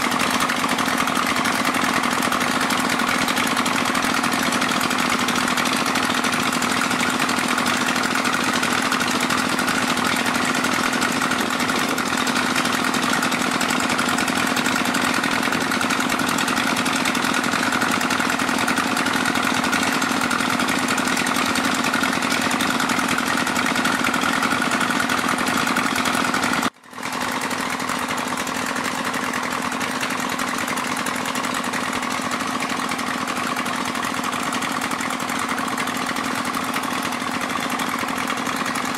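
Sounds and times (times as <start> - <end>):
small petrol engine pump running: 0.0 - 38.9.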